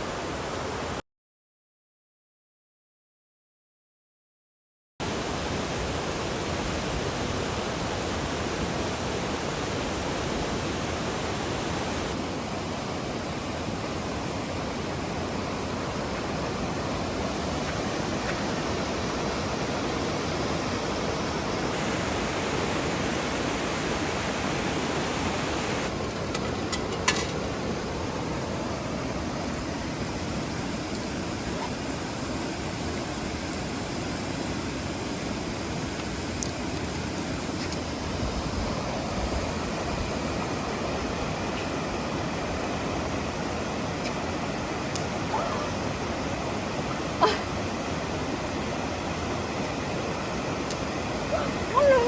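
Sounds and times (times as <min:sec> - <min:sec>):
waterfall rushing: 0:05.0 - 0:52.0.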